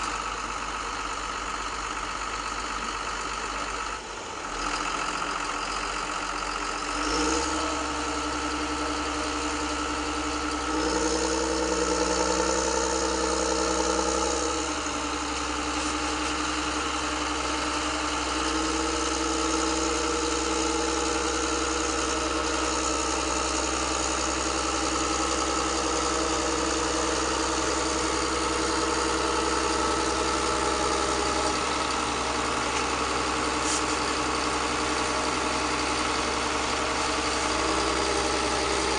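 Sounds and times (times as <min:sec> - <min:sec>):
model machine engines idling: 0:00.0 - 0:38.9.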